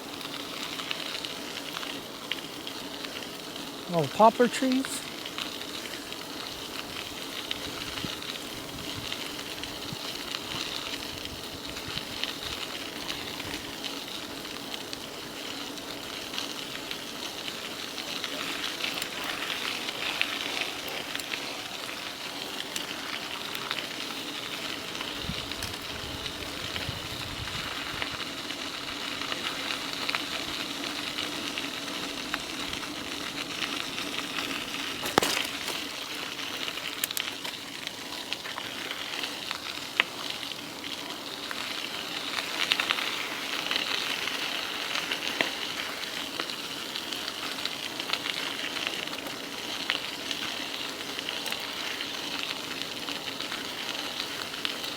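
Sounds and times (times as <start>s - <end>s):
tyres hissing on path: 0.7s - 54.9s.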